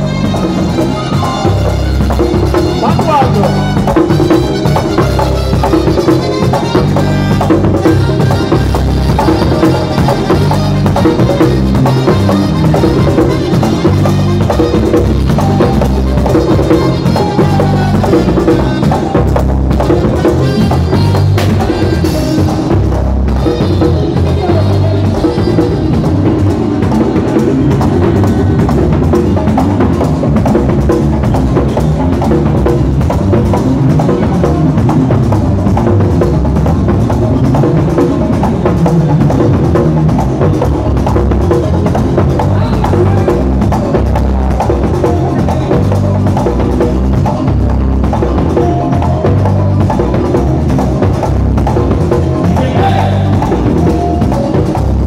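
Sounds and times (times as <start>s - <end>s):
drums beating fast: 0.0s - 55.0s
merengue band playing: 0.0s - 55.0s
saxophone: 0.0s - 55.0s.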